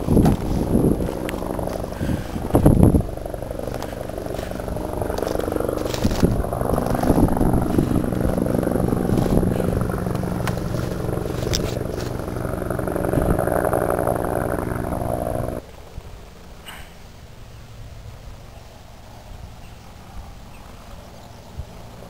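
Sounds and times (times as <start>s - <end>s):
engine humming: 0.0s - 18.2s
outdoor background: 0.0s - 22.0s.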